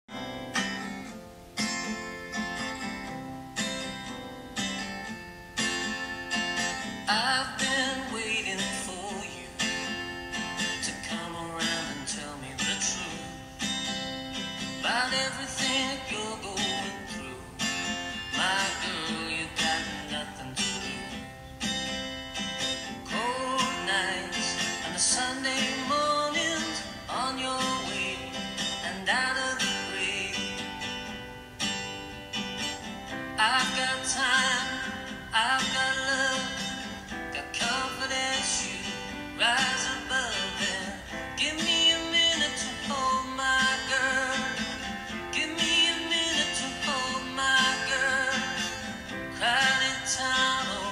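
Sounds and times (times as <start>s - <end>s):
strummed acoustic guitar music: 0.1s - 50.9s.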